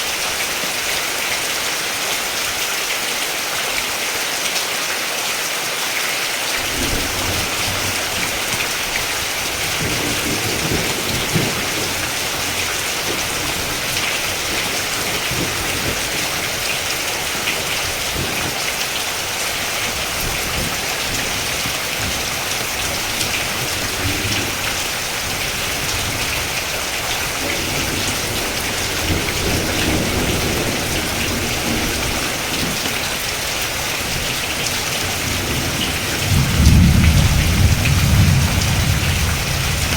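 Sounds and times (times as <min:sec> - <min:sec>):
heavy rain: 0:00.0 - 0:39.9
low thunder rumbling: 0:06.6 - 0:18.6, 0:19.6 - 0:39.9.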